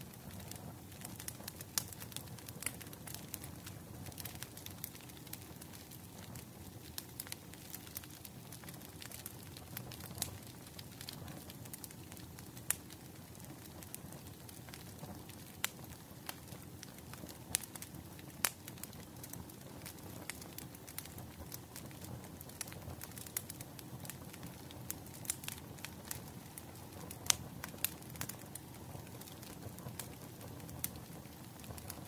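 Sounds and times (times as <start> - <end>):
bonfire crackling: 0.0 - 32.0.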